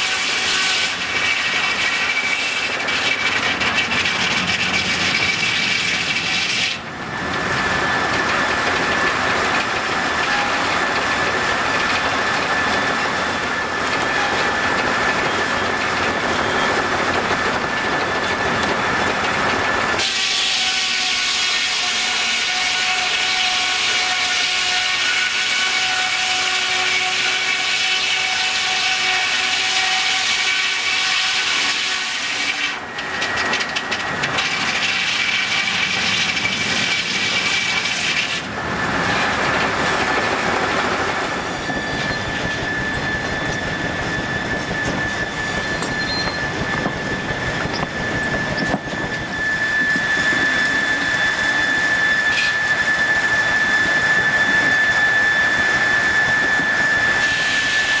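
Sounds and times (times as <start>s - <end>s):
high machine whine: 0.0s - 21.4s, 31.4s - 58.0s
sawmill machinery clatter: 0.0s - 58.0s.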